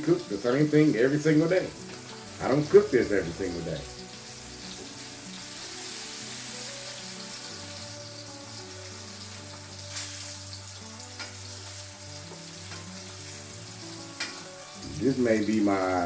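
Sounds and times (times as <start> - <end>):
fish sizzling in a frying pan: 0.0 - 16.0.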